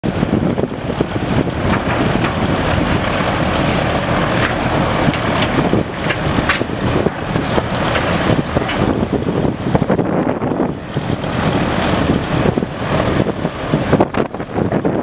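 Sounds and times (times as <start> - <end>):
hovercraft running: 0.0 - 15.0
wind buffeting microphone: 0.0 - 15.0.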